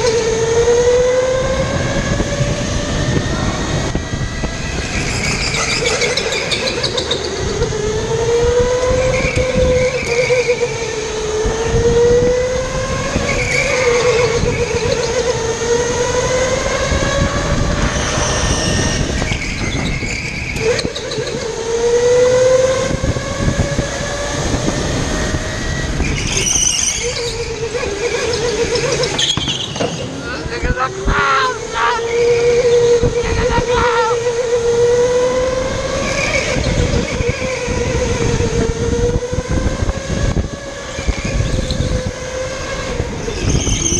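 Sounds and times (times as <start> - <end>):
chassis and tyre rumble: 0.0 - 43.9
go-kart motor running: 0.0 - 43.9.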